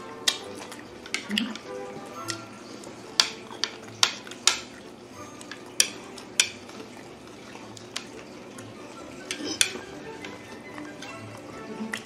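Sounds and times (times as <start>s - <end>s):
chopsticks clicking on a plate: 0.1s - 4.8s, 5.4s - 7.0s, 7.8s - 12.0s.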